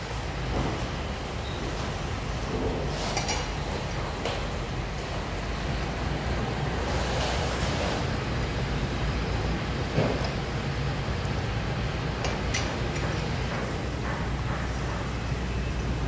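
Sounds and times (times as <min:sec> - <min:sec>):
workshop low rumble: 0:00.0 - 0:16.0.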